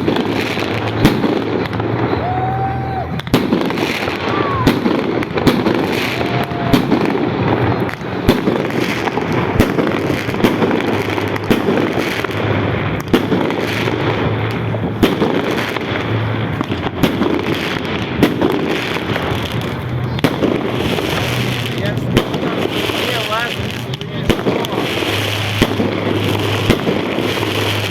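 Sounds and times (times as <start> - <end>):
fireworks going off: 0.0 - 27.9
sharp fireworks bangs: 0.0 - 27.9.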